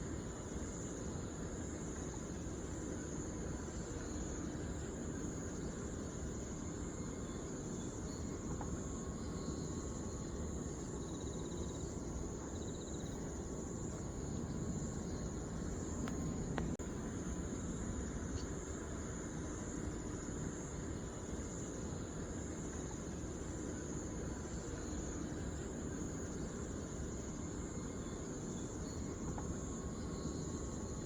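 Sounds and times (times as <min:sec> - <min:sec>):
crickets trilling: 0:00.0 - 0:31.0
low steady rumble: 0:00.0 - 0:31.0.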